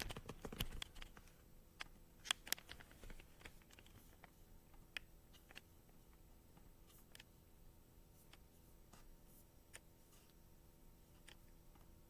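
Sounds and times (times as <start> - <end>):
faint clicks and taps: 0.0 - 7.4, 8.1 - 12.0
room hiss: 0.0 - 12.0.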